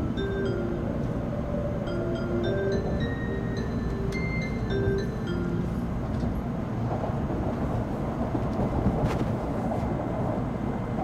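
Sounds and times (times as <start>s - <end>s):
train car low rumble: 0.0s - 11.0s.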